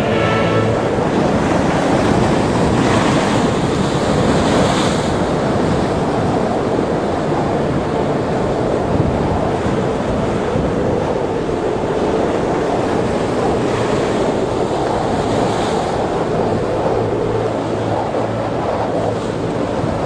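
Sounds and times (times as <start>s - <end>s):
rough surf: 0.0s - 20.0s
wind buffeting microphone: 0.0s - 20.0s.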